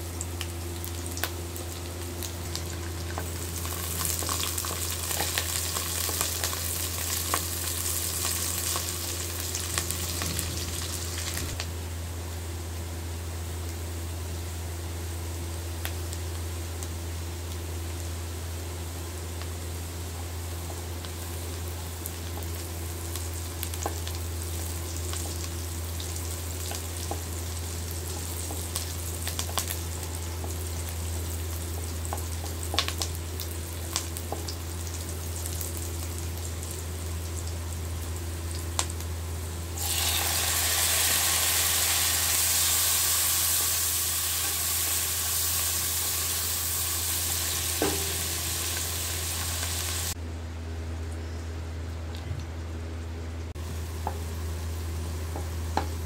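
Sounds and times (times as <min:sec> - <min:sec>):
onions sizzling in hot oil: 0:00.0 - 0:11.6, 0:14.0 - 0:50.2, 0:53.6 - 0:56.0.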